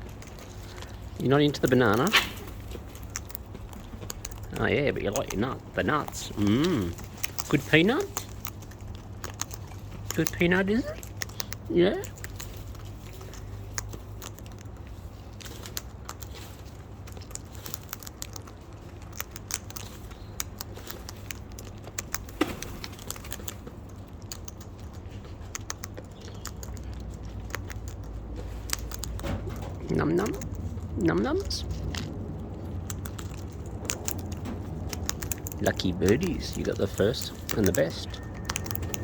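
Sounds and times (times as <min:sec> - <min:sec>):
birds cracking peanuts: 0:00.0 - 0:39.0
steady low hum: 0:00.0 - 0:39.0.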